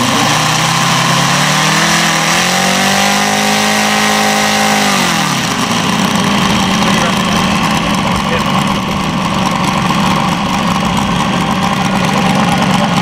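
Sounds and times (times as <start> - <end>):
model plane radial engine revving: 0.0 - 13.0.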